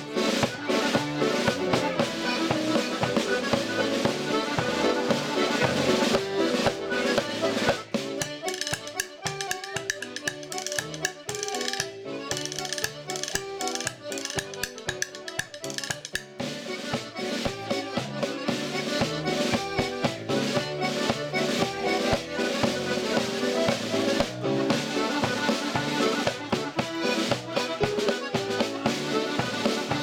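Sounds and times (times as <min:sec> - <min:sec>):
button accordions: 0:00.0 - 0:30.0
tenor banjo: 0:00.0 - 0:30.0.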